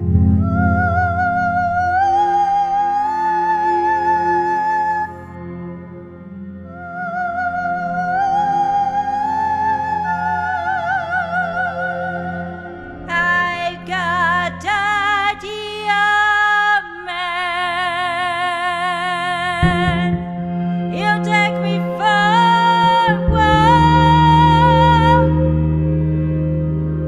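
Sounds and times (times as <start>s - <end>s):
wordless high voice singing: 0.0s - 5.3s, 6.7s - 25.5s
low drone: 0.0s - 16.2s, 19.5s - 27.0s.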